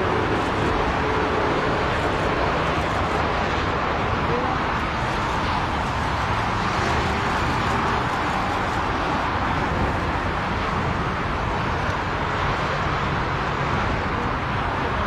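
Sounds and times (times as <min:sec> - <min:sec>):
distant jet engines: 0:00.0 - 0:15.0.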